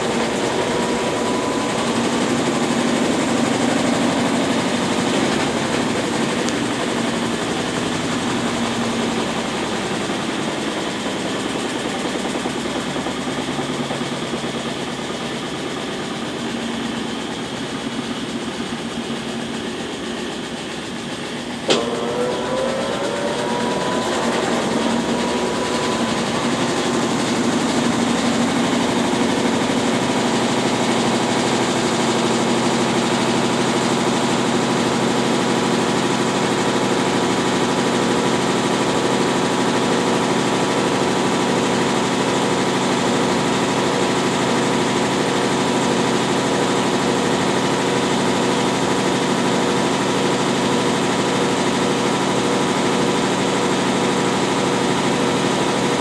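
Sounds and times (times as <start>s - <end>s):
washing machine motor hum: 0.0s - 56.0s.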